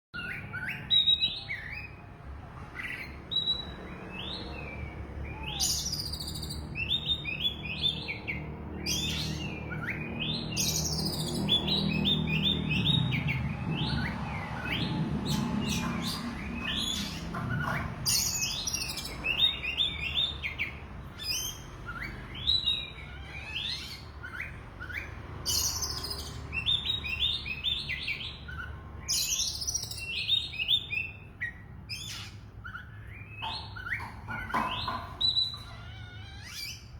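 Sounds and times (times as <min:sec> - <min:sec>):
magpie-robin singing: 0:00.2 - 0:36.9.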